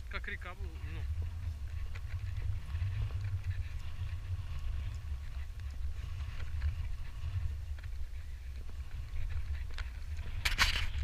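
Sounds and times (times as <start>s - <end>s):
wind buffeting microphone: 0.0s - 11.0s
footsteps on stony path: 0.1s - 11.0s.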